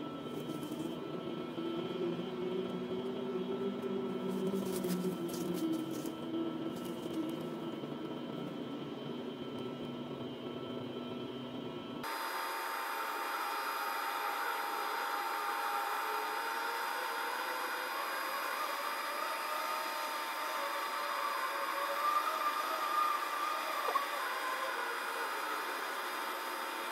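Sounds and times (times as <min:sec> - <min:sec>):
machine whirring drone: 0:00.0 - 0:26.9.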